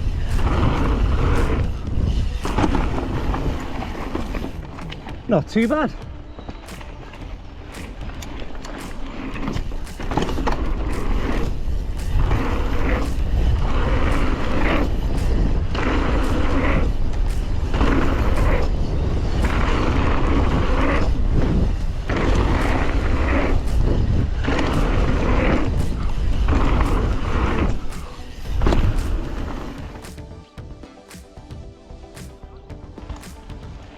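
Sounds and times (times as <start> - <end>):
wind buffeting microphone: 0.0 - 30.0
music: 0.0 - 33.9.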